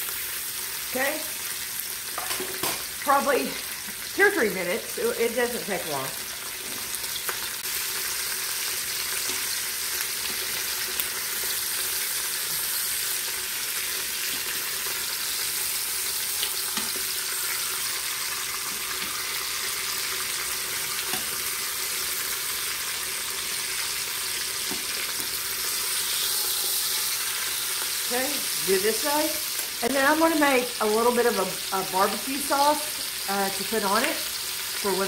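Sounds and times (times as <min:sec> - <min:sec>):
chicken sizzling in hot oil: 0:00.0 - 0:35.0.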